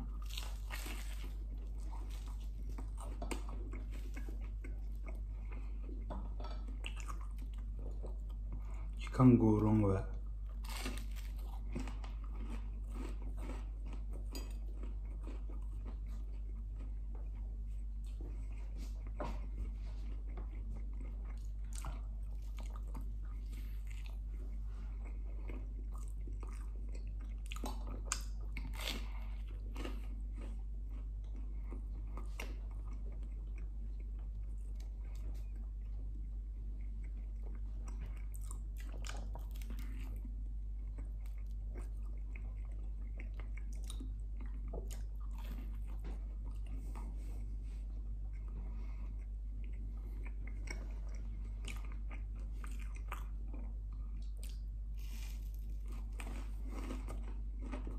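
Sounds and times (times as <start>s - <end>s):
person chewing bread: 0.0s - 9.1s, 10.1s - 57.9s
steady low hum: 0.0s - 57.9s.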